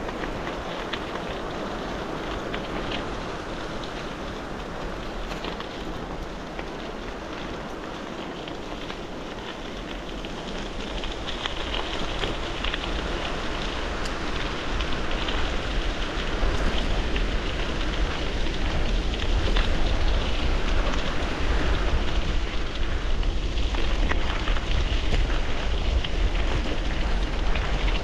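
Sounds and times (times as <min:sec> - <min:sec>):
bicycle tyres crunching on gravel: 0:00.0 - 0:28.0
wind rumbling on microphone: 0:00.0 - 0:28.0.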